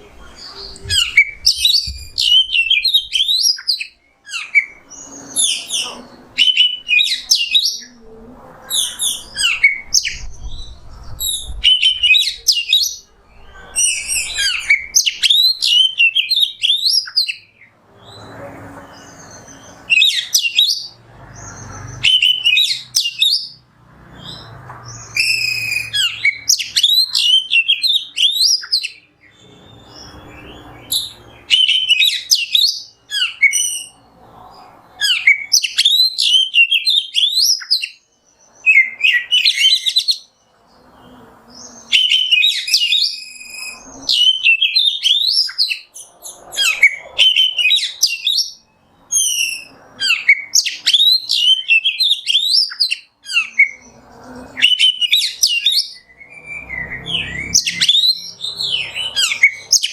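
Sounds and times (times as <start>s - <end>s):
bird singing whistles and chirps: 0.0s - 7.9s, 8.6s - 23.6s, 24.2s - 34.0s, 35.0s - 59.9s
low background noise: 0.0s - 59.9s.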